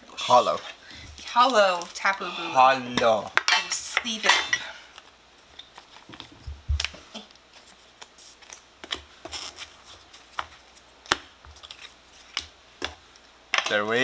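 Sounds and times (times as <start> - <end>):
cards and wrappers rustling: 0.3 - 3.5, 4.6 - 14.0.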